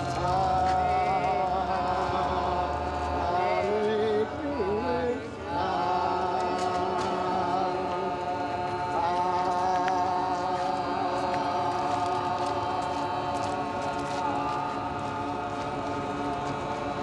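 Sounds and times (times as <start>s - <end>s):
music with chanted vocals: 0.0s - 17.0s.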